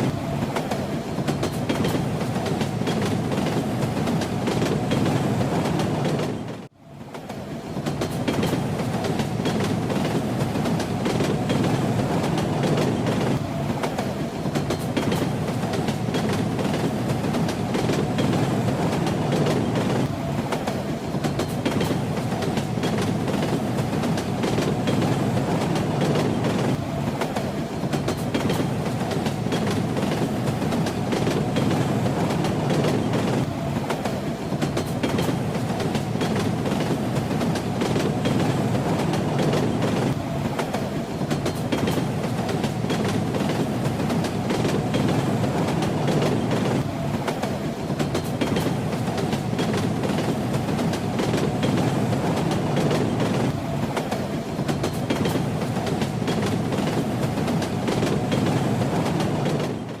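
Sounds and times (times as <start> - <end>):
train rumbling: 0.0 - 60.0.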